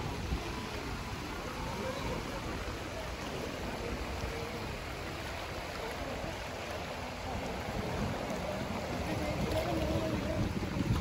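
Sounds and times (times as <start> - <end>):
small waves lapping on rocky shore: 0.0 - 11.0
wind rumbling on microphone: 0.0 - 11.0.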